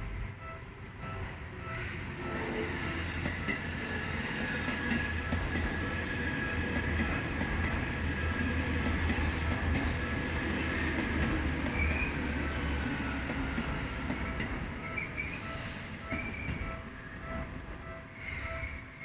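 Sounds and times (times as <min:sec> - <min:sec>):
train wheels rumbling on track: 0:00.0 - 0:19.0
crossing warning bell ringing: 0:00.3 - 0:19.0.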